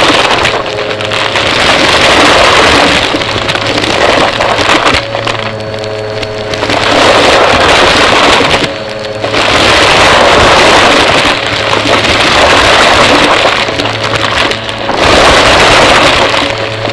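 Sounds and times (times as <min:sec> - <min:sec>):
vacuum cleaner air rush: 0:00.0 - 0:16.9
vacuum motor whine: 0:00.0 - 0:16.9.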